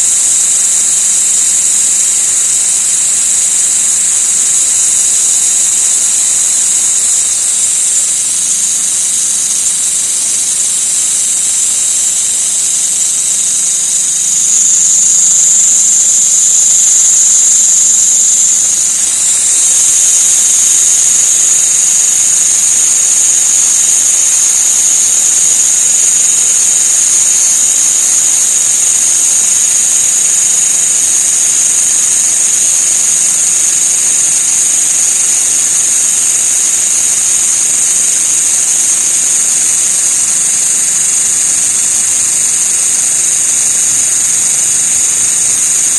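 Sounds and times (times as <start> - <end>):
insect shrill drone: 0.0 - 45.9.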